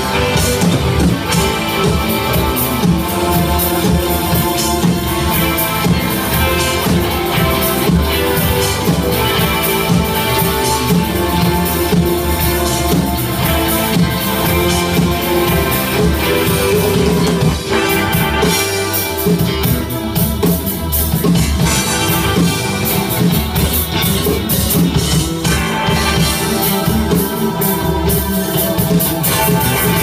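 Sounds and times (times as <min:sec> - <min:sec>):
bass guitar: 0:00.0 - 0:30.0
drum kit: 0:00.0 - 0:30.0
electric guitar: 0:00.0 - 0:30.0.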